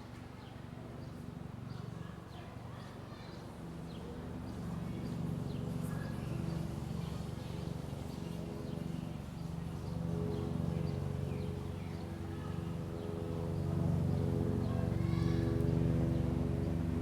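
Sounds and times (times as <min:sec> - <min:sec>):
low street hum with tones: 0:00.0 - 0:17.0.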